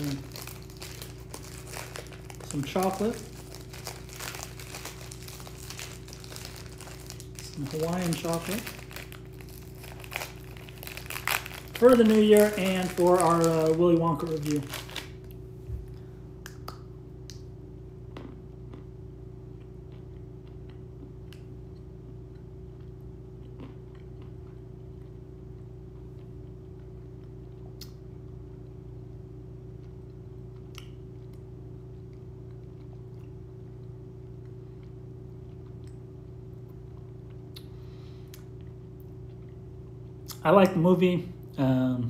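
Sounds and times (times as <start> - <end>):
person chewing: 0.0 - 15.2, 18.1 - 18.9, 19.5 - 28.8, 29.7 - 40.4
low hum: 0.0 - 40.4.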